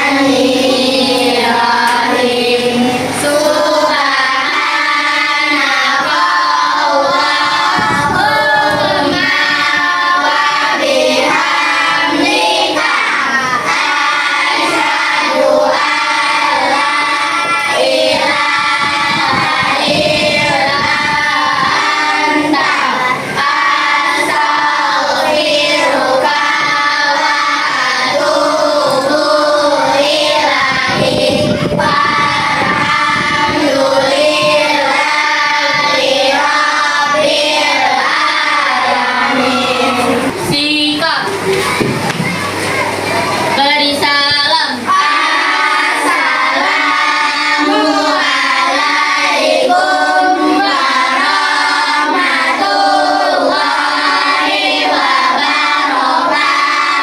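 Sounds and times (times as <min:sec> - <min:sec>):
children singing in chorus: 0:00.0 - 0:44.1, 0:44.8 - 0:57.0.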